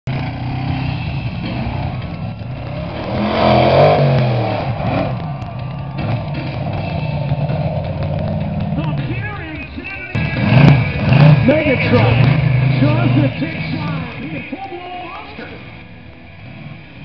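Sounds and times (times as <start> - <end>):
truck engine revving: 0.1 - 14.6.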